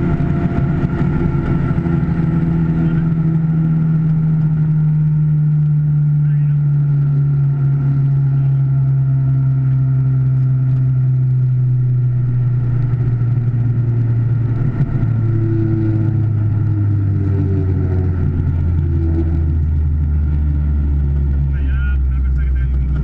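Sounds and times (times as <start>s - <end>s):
car engine drone from inside: 0.0s - 23.0s.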